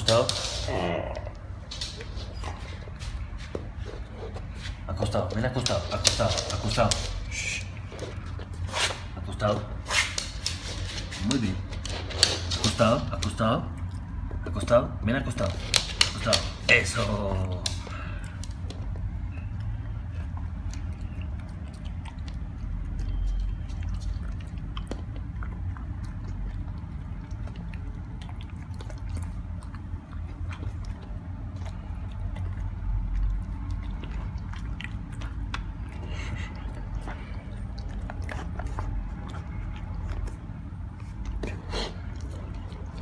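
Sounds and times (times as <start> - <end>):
dog crunching dry treats: 0.0 - 3.0, 3.8 - 43.0.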